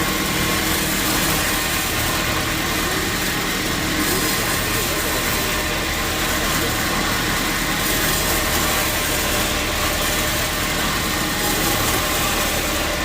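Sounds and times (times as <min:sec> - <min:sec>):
sawmill motor drone: 0:00.0 - 0:13.0.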